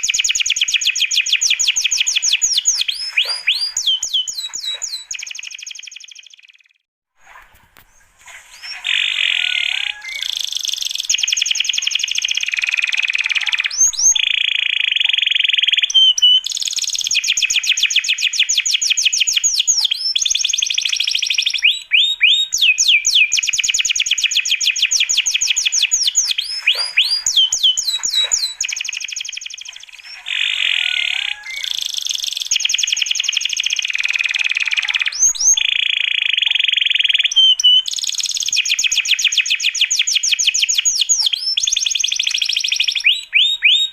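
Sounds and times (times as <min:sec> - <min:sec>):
songbird trilling: 0:00.0 - 0:06.6, 0:08.0 - 0:43.9.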